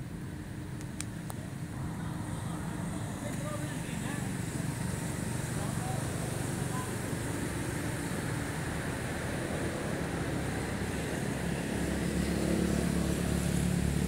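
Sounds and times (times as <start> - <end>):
steady road noise: 0.0 - 14.0
vehicle engine hum: 0.0 - 14.0.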